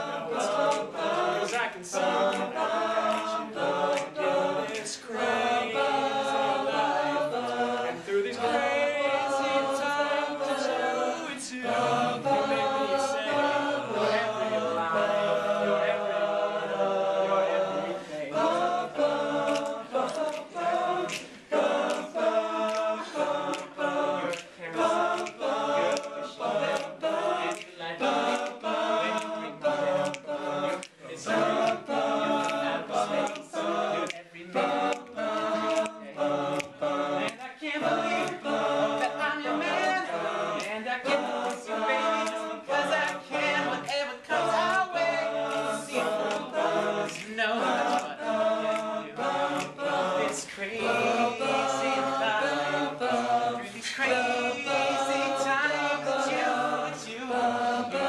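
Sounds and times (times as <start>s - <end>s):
men singing a cappella: 0.0s - 58.0s.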